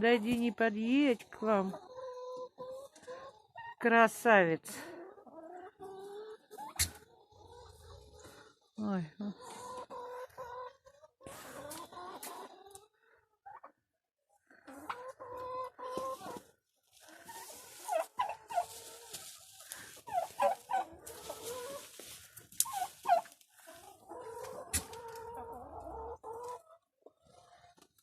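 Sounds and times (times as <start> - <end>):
poultry clucking and calling: 0.1 - 28.0.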